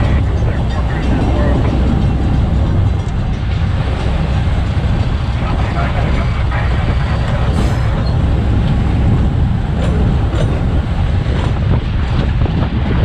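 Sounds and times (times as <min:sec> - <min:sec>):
locomotive engine rumbling: 0:00.0 - 0:13.0.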